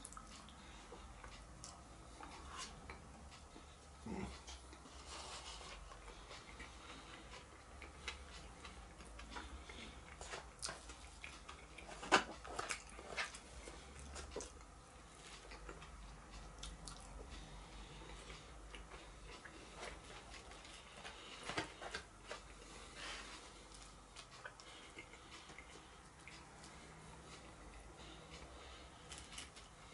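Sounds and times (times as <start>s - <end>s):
soft chewing: 0.0s - 29.9s.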